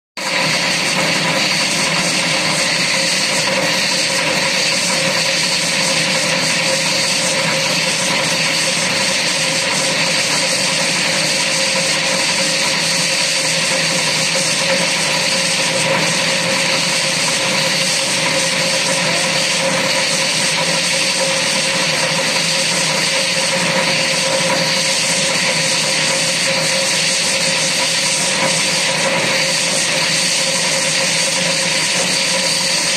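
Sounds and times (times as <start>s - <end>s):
wire saw whining: 0.2s - 32.9s.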